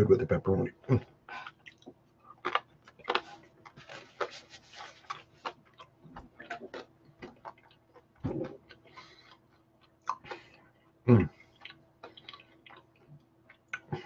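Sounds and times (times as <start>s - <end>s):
person chewing: 0.8s - 14.0s.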